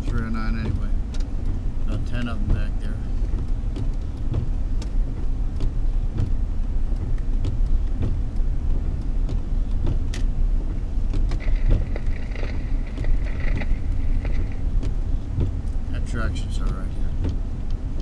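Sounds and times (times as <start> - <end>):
car driving on snow: 0.0 - 18.0
light clicks and knocks: 0.0 - 18.0.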